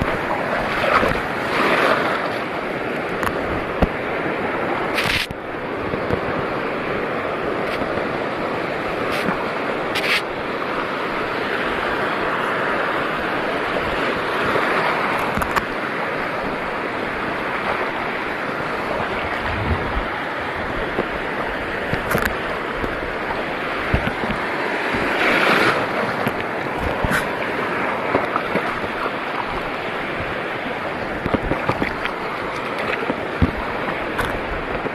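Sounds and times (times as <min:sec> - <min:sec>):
sea surf washing: 0:00.0 - 0:34.9
wind on microphone: 0:00.0 - 0:34.9.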